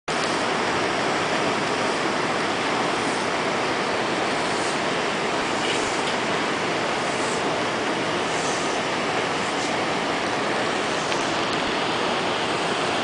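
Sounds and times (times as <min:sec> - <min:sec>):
floodwater rushing: 0:00.1 - 0:13.0.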